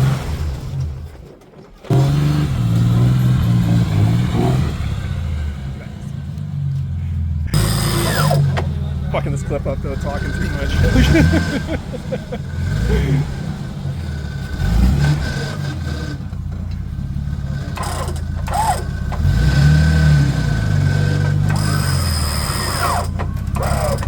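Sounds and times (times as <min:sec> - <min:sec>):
truck engine throttle blips: 0:00.0 - 0:24.0.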